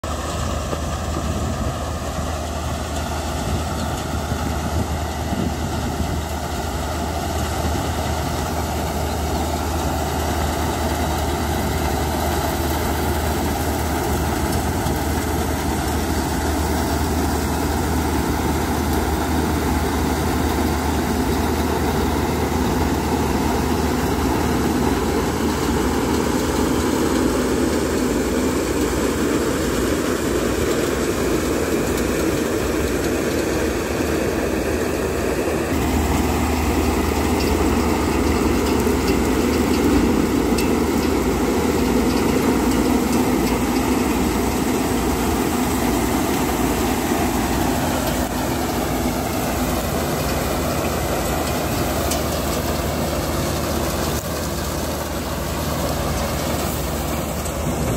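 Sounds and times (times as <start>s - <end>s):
combine harvester engine drone: 0.0s - 57.9s.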